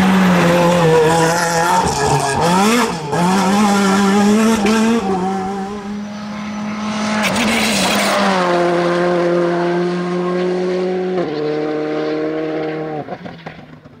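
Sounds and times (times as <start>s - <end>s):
rally car engines at high revs: 0.0s - 14.0s.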